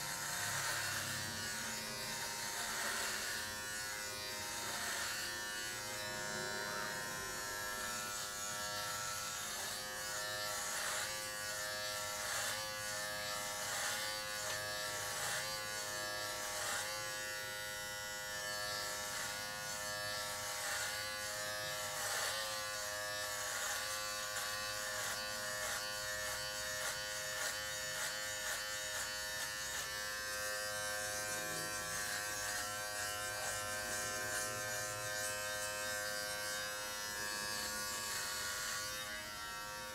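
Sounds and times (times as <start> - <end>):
hair trimmer buzzing: 0.0 - 39.9.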